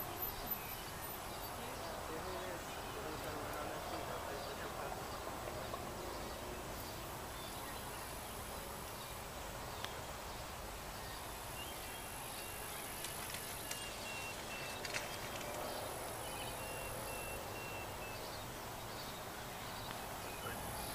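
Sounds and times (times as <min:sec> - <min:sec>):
steady outdoor hiss: 0:00.0 - 0:20.9.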